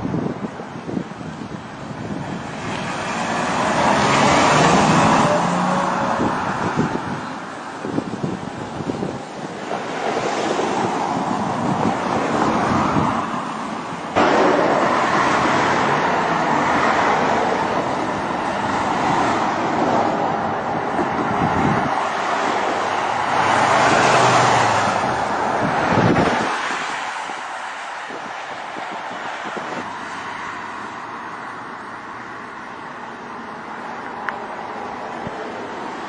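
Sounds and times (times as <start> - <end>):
car road noise: 0.0 - 36.0.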